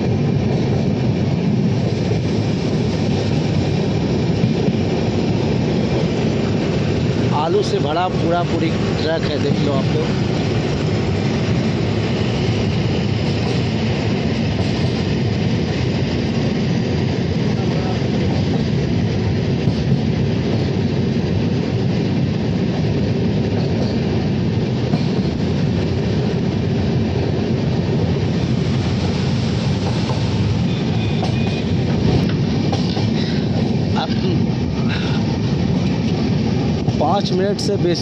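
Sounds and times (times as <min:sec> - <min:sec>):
train wheels on track: 0:00.0 - 0:38.0.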